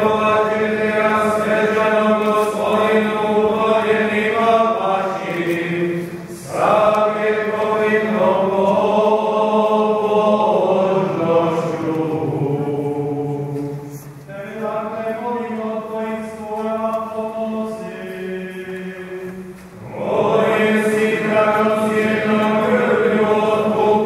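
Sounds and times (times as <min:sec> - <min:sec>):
voices singing a chant: 0:00.0 - 0:24.0.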